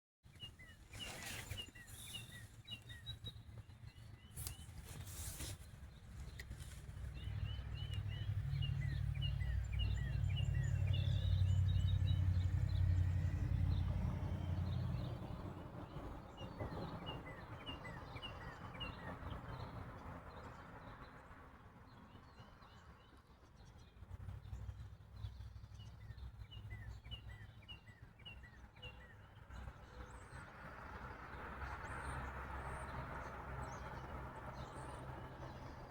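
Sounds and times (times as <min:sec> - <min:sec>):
songbirds chirping: 0:00.2 - 0:35.9.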